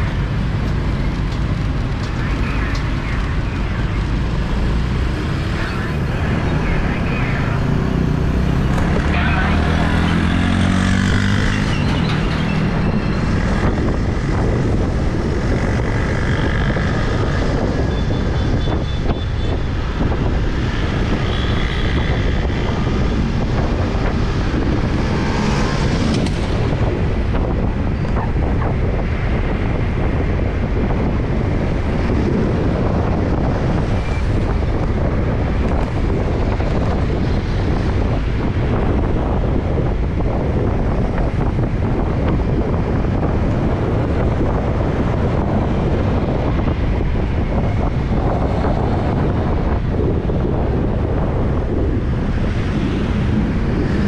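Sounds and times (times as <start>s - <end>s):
motorbike traffic rumble: 0.0s - 54.0s
wind buffeting microphone: 0.0s - 54.0s.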